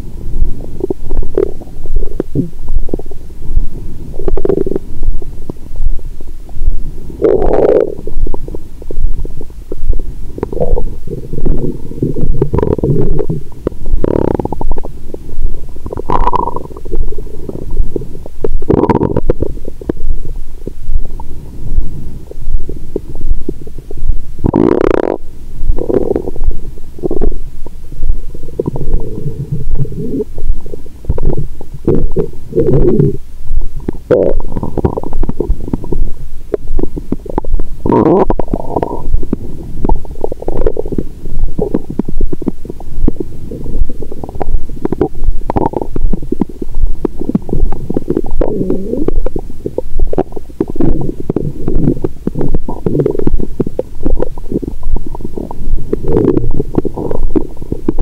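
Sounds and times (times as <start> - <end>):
soft regular pulse: 0.0 - 58.0
stomach gurgling and rumbling: 0.0 - 58.0.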